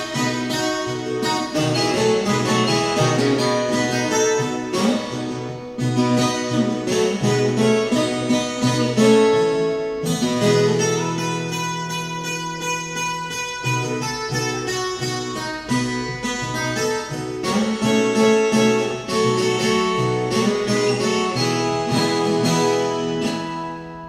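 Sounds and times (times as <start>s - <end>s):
steel-string guitar solo: 0.0s - 24.0s.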